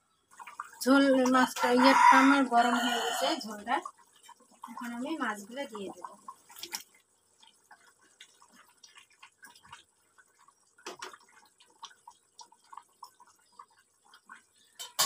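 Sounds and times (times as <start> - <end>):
curry bubbling and plopping: 0.2 - 15.0.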